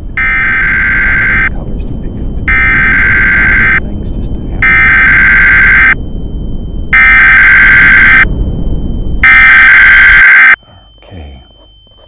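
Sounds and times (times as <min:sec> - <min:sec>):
harsh buzzing alarm tone: 0:00.0 - 0:01.5, 0:02.5 - 0:03.9, 0:04.6 - 0:12.0
low rumbling noise: 0:00.0 - 0:11.0
faint high whine: 0:00.0 - 0:12.0.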